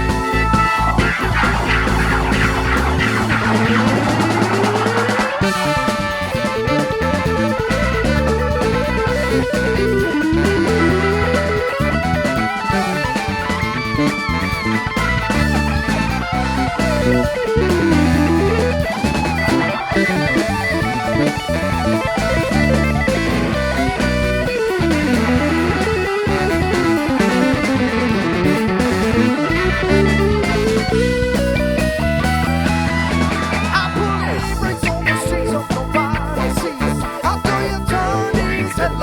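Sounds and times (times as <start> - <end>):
bass guitar: 0.0 - 39.0
drums: 0.0 - 39.0
electric guitar pitch slides: 0.0 - 39.0.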